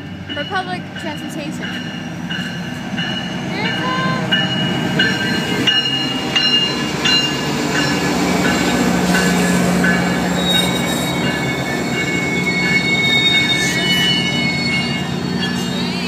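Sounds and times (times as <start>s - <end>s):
train wheels squealing: 1.6s - 16.0s.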